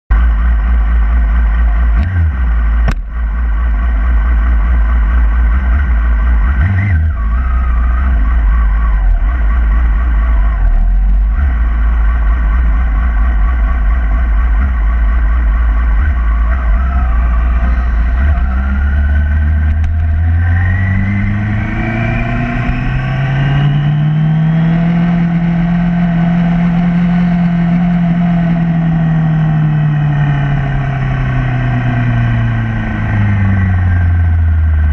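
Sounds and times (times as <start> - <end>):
motorcycle engine idling and accelerating: 0.1 - 34.9.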